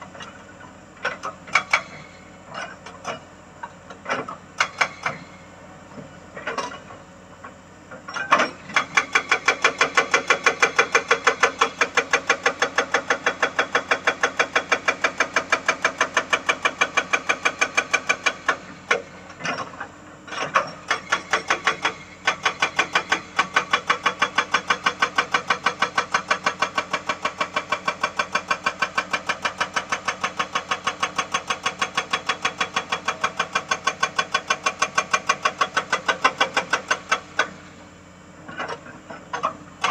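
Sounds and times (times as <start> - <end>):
hydraulic breaker hammering rock: 1.0 - 5.4, 8.1 - 37.8, 38.5 - 39.9.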